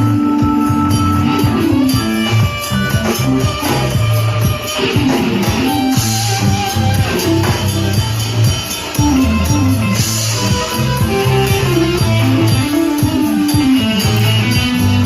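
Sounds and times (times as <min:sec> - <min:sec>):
bass line: 0:00.0 - 0:15.0
drums and cymbals: 0:00.0 - 0:15.0
electric guitar: 0:00.0 - 0:15.0.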